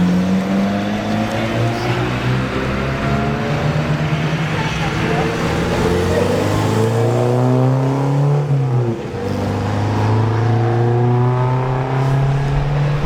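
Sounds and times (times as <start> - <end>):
sports car engine accelerating: 0.0 - 13.0.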